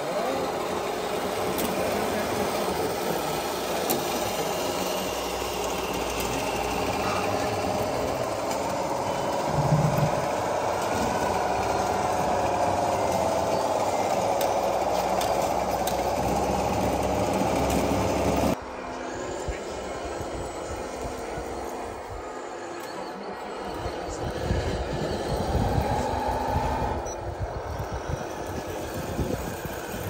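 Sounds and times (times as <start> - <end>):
model machines mechanical whine: 0.0 - 30.0.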